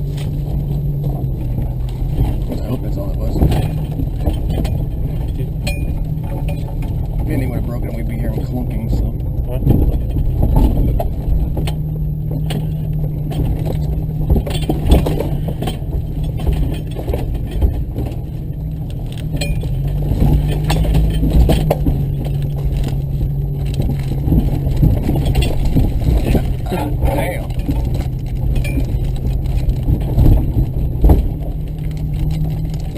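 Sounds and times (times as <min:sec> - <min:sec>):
knocks and rattles: 0:00.0 - 0:32.9
vehicle engine at low revs: 0:00.0 - 0:32.9.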